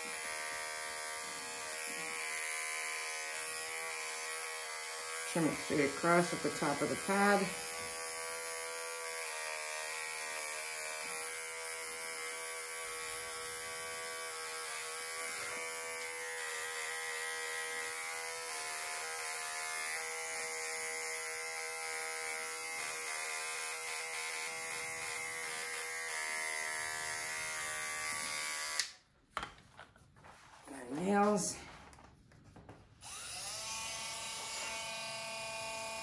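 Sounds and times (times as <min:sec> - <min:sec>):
pet clipper buzzing: 0:00.0 - 0:29.1, 0:33.0 - 0:36.0.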